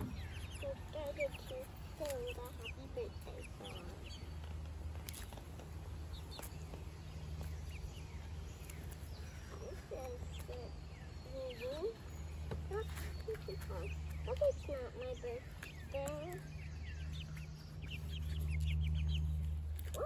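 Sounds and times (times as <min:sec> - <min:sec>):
hens clucking and peeping: 0:00.0 - 0:20.0
hens pecking ticks: 0:00.0 - 0:20.0.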